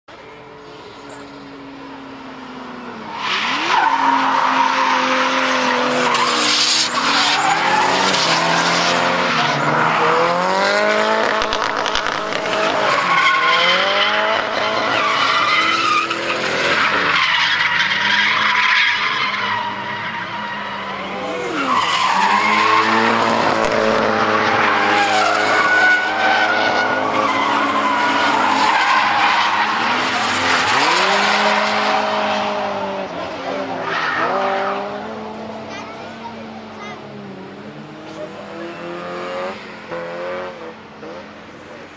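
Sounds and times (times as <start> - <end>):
tyres skidding and squealing: 0.1 - 41.9
car engines revving hard: 0.7 - 41.9.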